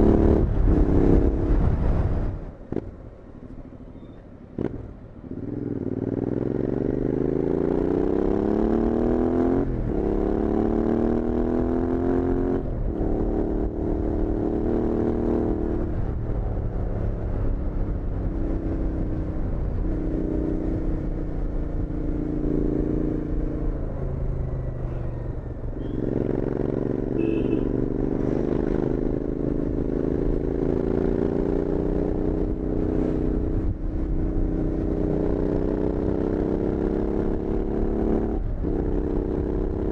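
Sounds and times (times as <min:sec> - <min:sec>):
motorcycle engine accelerating: 0:00.0 - 0:03.0, 0:04.0 - 0:39.9.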